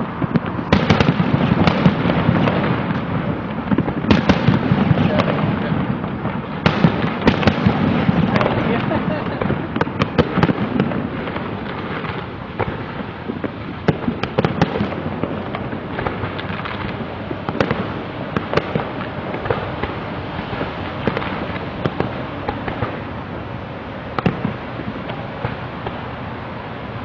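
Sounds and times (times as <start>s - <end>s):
fireworks crackling and popping: 0.0s - 27.0s
sharp firework reports: 0.0s - 27.0s.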